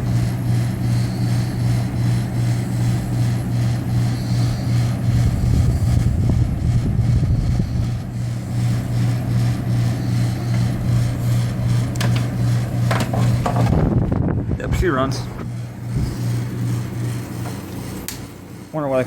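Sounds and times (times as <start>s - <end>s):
air conditioner compressor humming: 0.0s - 19.0s
fan rushing: 0.0s - 19.0s.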